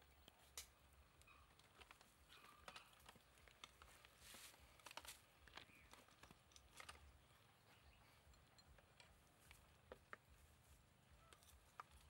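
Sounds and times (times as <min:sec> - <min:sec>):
gloved hands handling supplies: 0:00.1 - 0:12.0.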